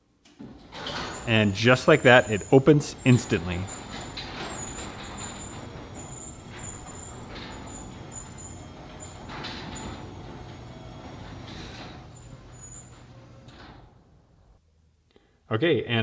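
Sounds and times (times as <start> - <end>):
garage door opener motor hum: 0.4 - 14.4.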